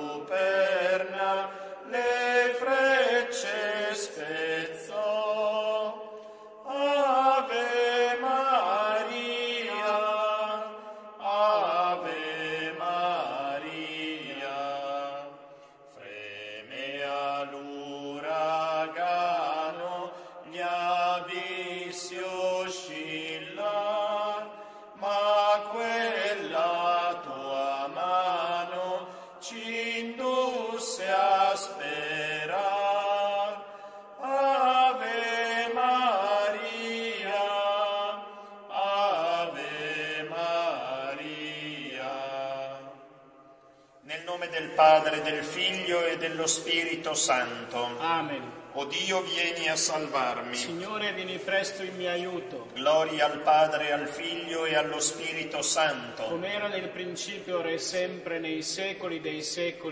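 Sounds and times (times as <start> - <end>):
voices singing devotional chant: 0.0 - 43.4, 44.1 - 58.4.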